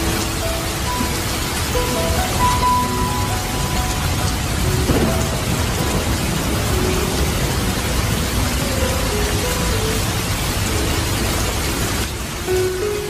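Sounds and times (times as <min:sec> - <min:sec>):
rain falling on trees: 0:00.0 - 0:13.0.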